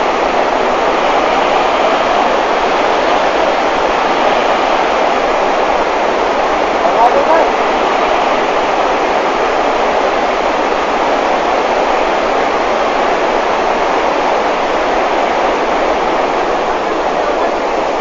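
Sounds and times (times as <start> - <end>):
whitewater rushing over rocks: 0.0 - 18.0.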